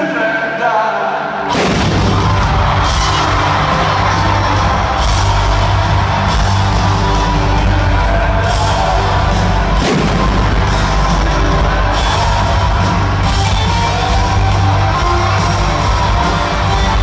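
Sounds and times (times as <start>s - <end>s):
live rock band playing: 1.4s - 17.0s.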